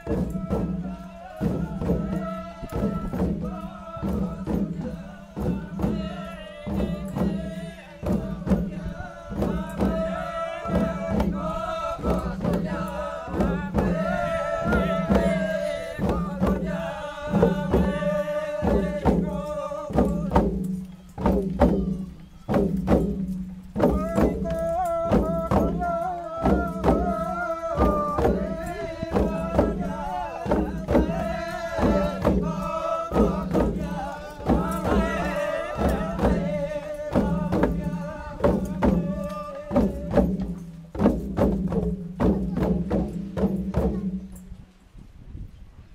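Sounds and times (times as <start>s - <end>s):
group chanting in unison: 0.0s - 20.6s, 23.8s - 40.4s
wooden hand drums beating: 0.0s - 44.6s.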